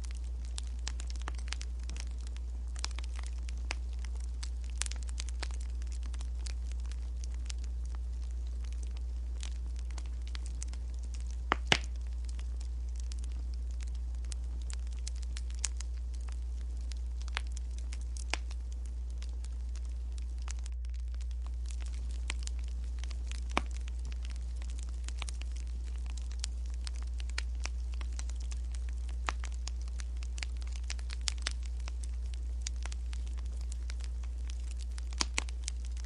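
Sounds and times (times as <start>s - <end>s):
steady low hum: 0.0s - 36.0s
wood fire crackling: 0.0s - 36.0s.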